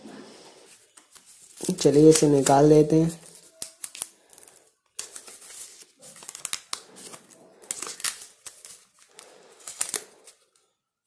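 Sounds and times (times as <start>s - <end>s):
plastic film crackling: 0.7s - 10.8s.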